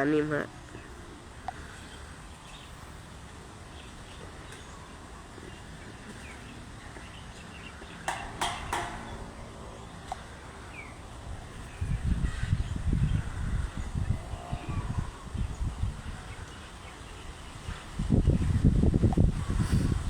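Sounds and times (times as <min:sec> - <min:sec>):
low rumble of wind: 0:00.0 - 0:20.0.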